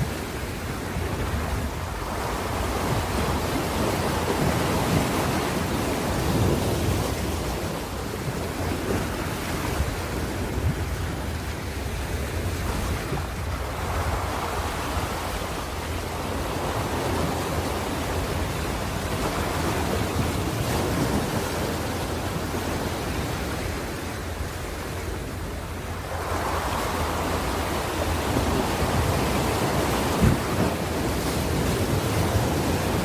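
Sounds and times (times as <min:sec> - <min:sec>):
ocean waves washing on shore: 0:00.0 - 0:33.0.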